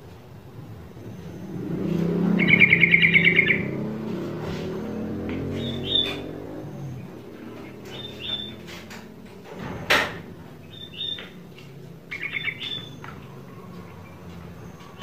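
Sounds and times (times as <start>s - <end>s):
bird chirping: 1.0s - 9.3s, 10.4s - 15.0s.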